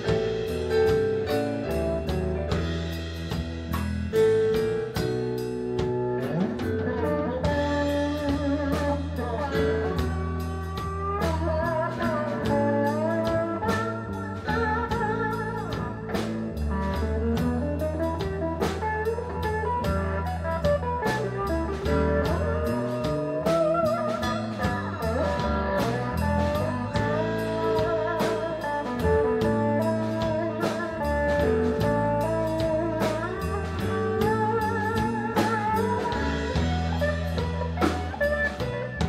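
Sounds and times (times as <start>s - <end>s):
drum kit beat: 0.0s - 39.0s
electric guitar lead: 0.0s - 39.0s
keyboard: 0.0s - 39.0s.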